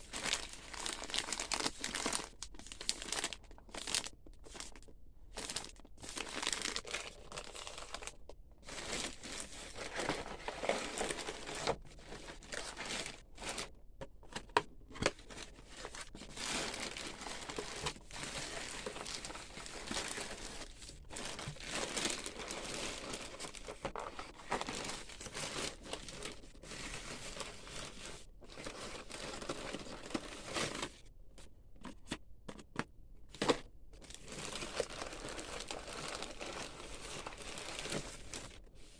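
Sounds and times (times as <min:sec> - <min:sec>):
packaging crinkling and rustling: 0:00.0 - 0:31.0, 0:31.8 - 0:38.9.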